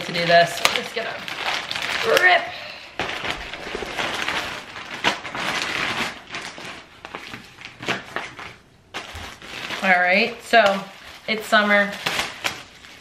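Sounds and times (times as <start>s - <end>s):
packaging crinkling and rustling: 0.0s - 13.0s
plastic bag ripping: 0.0s - 13.0s.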